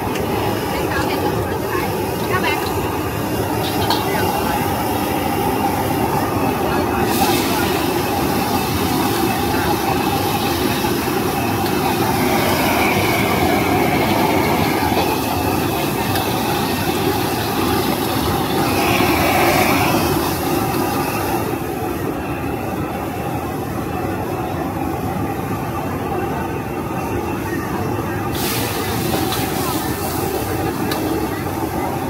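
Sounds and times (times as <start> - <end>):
wok burner roaring: 0.0 - 32.0.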